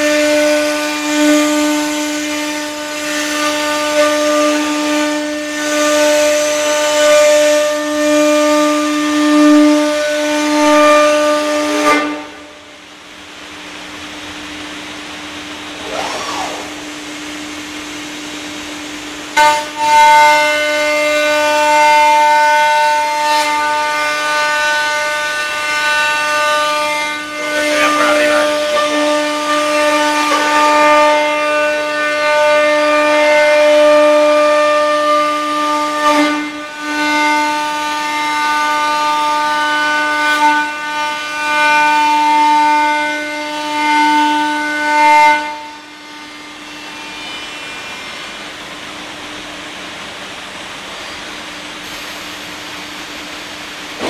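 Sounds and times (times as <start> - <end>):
cnc machine whine: 0.0 - 54.0.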